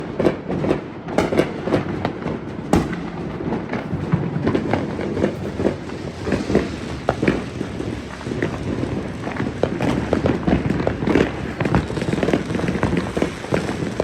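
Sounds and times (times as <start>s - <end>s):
gunshots: 1.2s - 14.0s.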